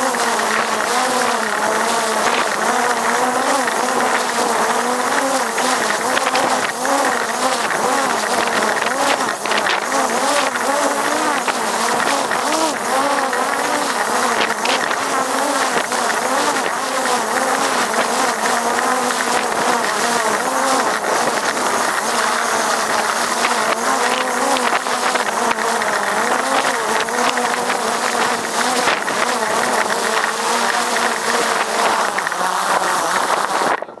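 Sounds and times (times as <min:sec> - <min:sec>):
drone propellers buzzing: 0:00.0 - 0:34.0.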